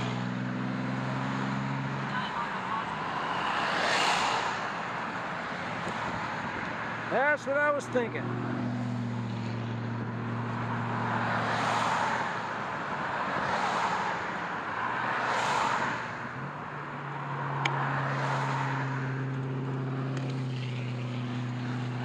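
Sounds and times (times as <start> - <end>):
cars passing: 0.0 - 22.0.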